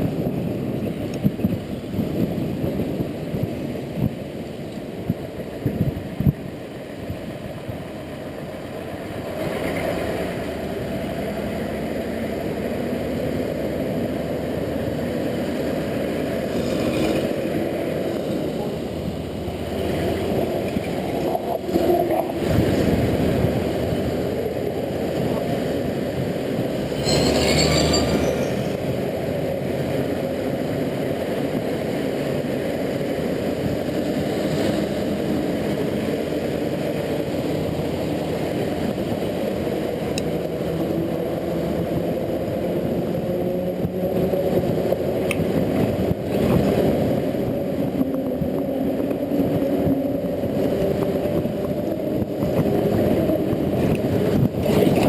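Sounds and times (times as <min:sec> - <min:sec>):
passing vehicles: 0:00.0 - 0:55.0
wind and road rumble: 0:00.0 - 0:55.0.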